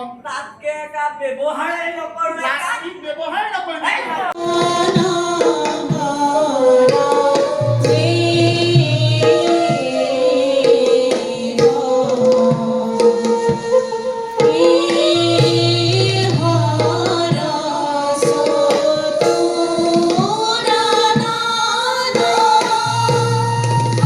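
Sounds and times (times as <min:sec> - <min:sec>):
singing voice: 0:00.0 - 0:24.0
tabla: 0:04.3 - 0:24.0.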